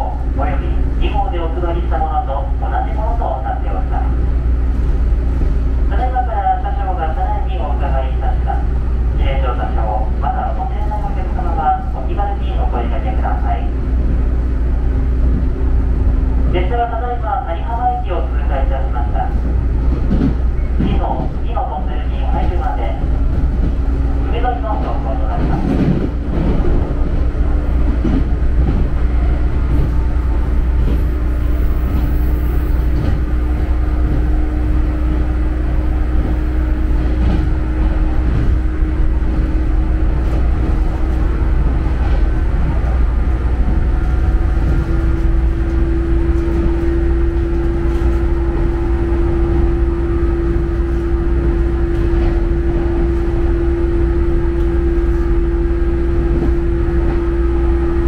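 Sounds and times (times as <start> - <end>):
electric train hum: 0.0 - 58.0
electric train rumble: 0.0 - 58.0.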